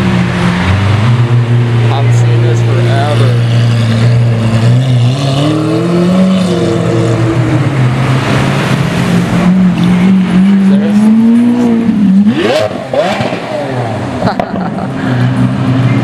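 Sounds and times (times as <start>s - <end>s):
sports car engine accelerating: 0.0s - 16.0s.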